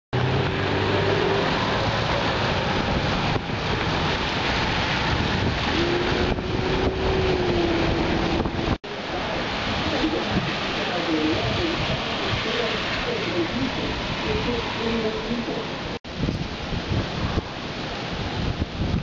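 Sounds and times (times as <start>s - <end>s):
wind buffeting the microphone: 1.6s - 19.0s.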